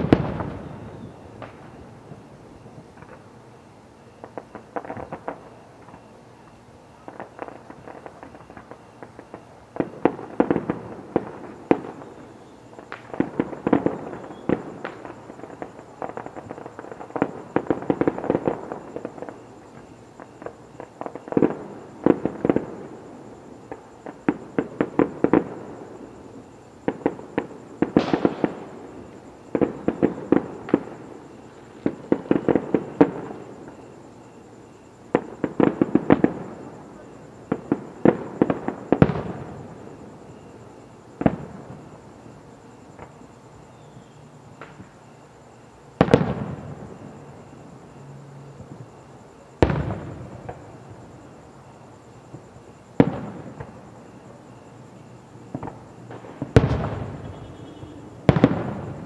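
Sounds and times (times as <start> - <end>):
falling firework whistle: 0.0 - 59.0
fireworks bangs and crackles: 0.0 - 59.0.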